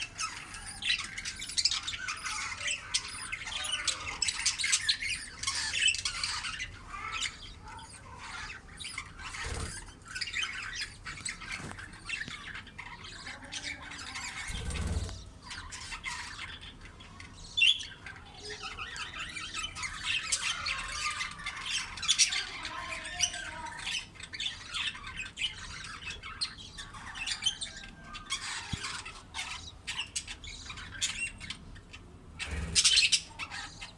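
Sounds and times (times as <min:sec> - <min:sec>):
budgerigars squawking and chirping: 0:00.0 - 0:33.9.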